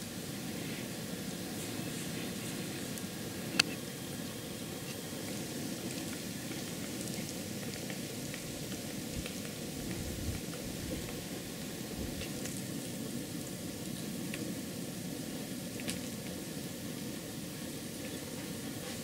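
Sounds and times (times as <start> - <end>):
faint ticks and crackles: 0.4 - 19.0.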